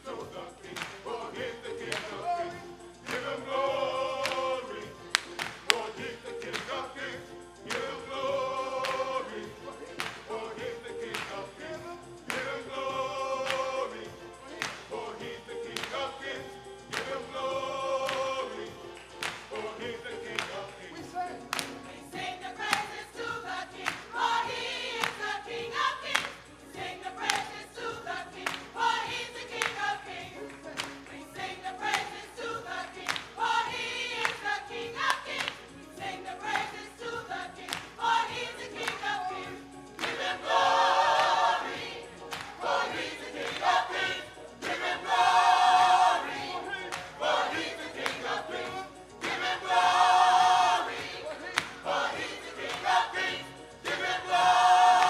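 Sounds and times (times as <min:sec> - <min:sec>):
gospel choir singing: 0:00.0 - 0:55.0.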